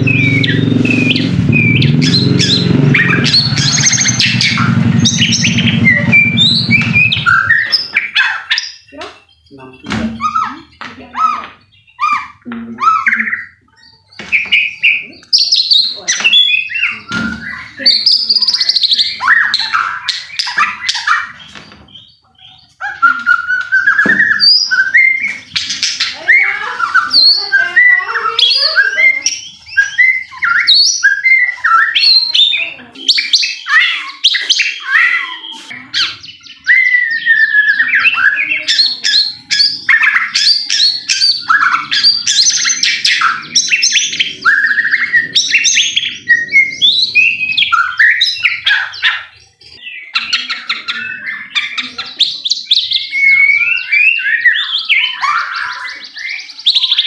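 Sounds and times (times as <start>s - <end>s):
bird singing loudly: 0.0s - 57.0s.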